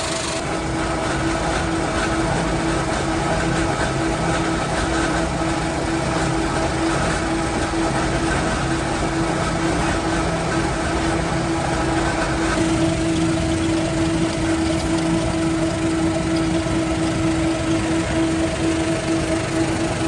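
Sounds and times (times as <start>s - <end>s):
machinery humming: 0.0s - 20.0s
rushing grinding noise: 0.0s - 20.0s.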